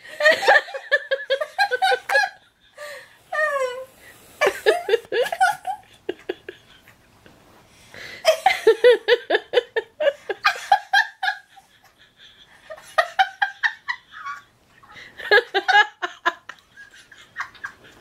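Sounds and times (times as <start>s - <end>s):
woman laughing hard: 0.1s - 3.6s, 4.4s - 6.8s, 8.0s - 18.0s.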